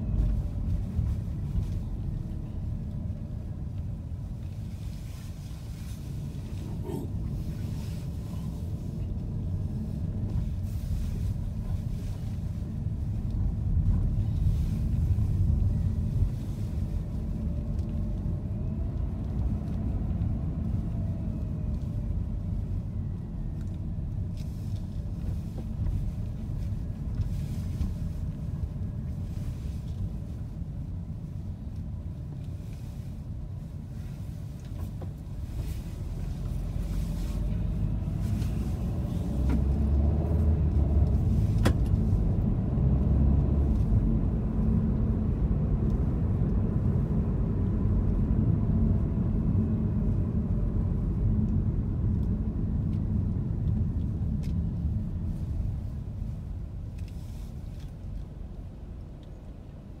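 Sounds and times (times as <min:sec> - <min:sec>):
car engine and road rumble: 0:00.0 - 1:00.0.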